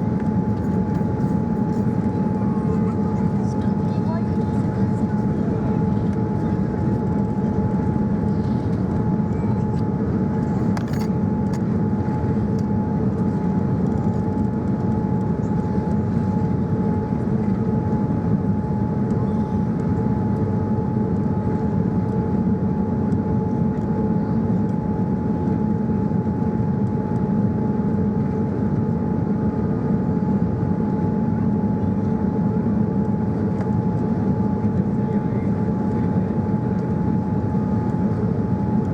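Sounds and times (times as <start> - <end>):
airliner cabin engine hum: 0.0 - 38.9.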